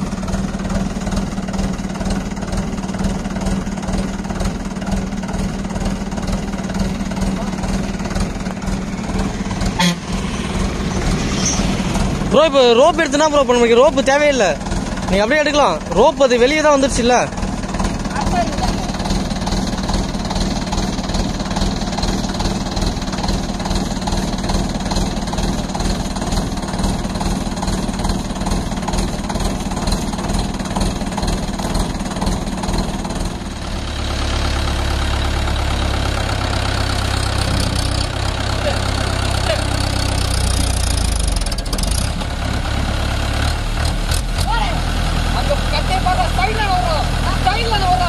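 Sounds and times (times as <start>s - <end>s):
tractor diesel engine idling: 0.0s - 48.0s.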